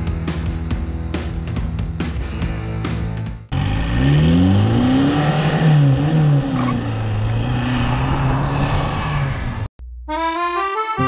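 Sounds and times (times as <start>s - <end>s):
van engine accelerating: 0.0s - 9.7s.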